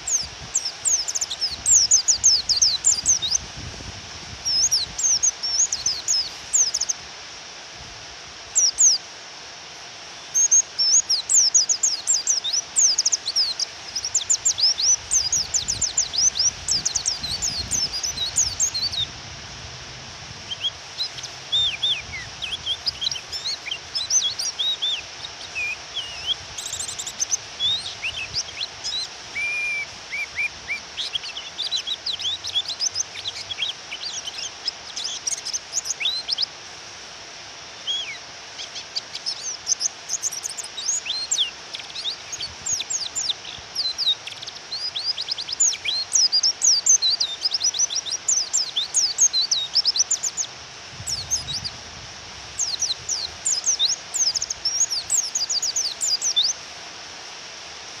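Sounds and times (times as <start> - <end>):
birds chirping and twittering: 0.0 - 3.6, 4.3 - 7.0, 8.5 - 9.0, 10.2 - 19.1, 20.4 - 36.6, 37.8 - 51.8, 52.5 - 56.6
rain hissing: 0.0 - 58.0.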